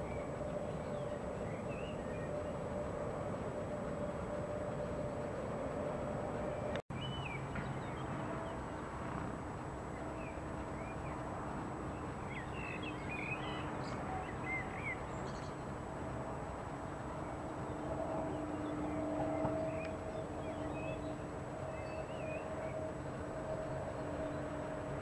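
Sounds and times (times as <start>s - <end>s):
distant railway rumble: 0.0s - 25.0s.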